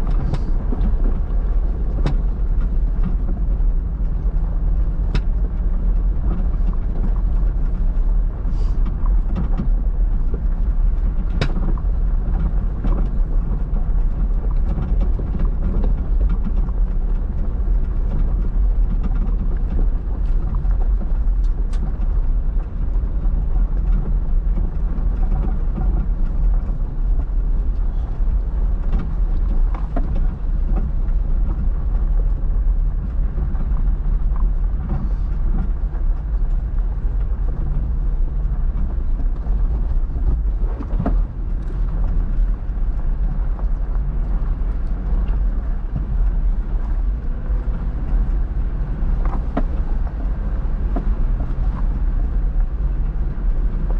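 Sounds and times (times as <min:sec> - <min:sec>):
vehicle engine rumbling: 0:00.0 - 0:53.9.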